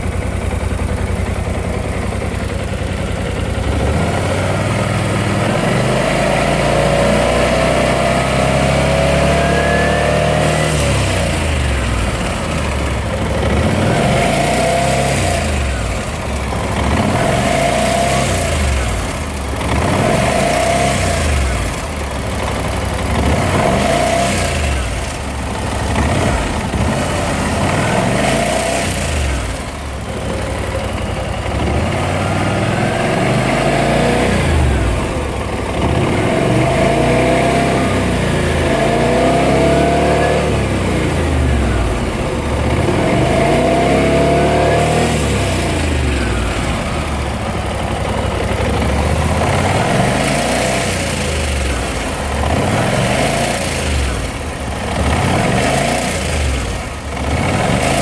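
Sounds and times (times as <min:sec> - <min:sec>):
scooter engine revving: 0:00.0 - 0:58.0.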